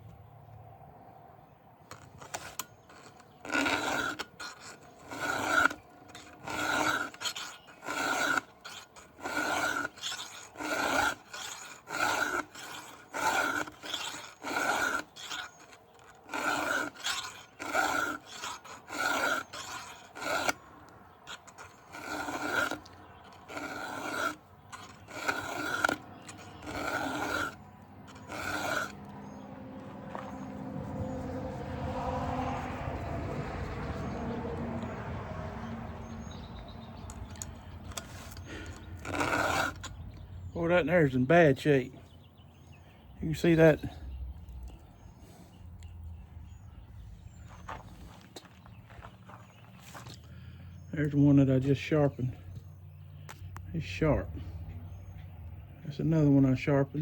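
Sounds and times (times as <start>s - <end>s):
file rasping on chainsaw chain: 1.9s - 52.6s.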